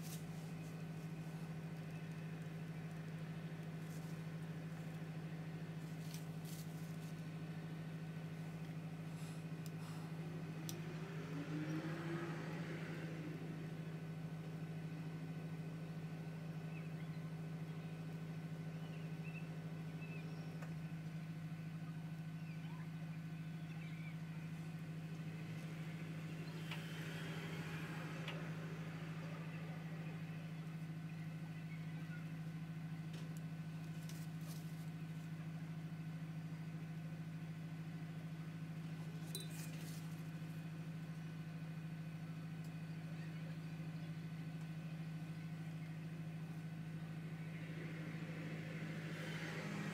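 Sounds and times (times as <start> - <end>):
steady low room hum: 0.0 - 49.9.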